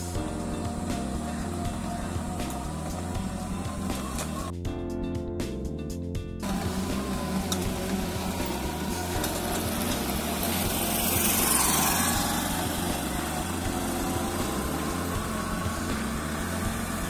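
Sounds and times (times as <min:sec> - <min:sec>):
scooter engine passing by: 0:00.0 - 0:04.5, 0:06.4 - 0:17.0.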